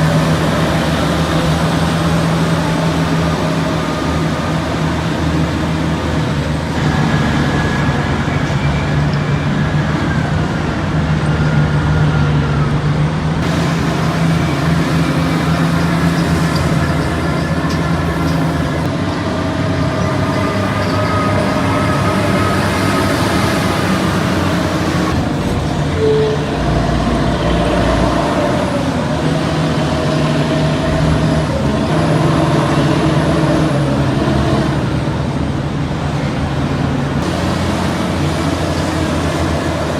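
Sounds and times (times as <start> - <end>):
heavy machinery engines running: 0.0 - 39.9.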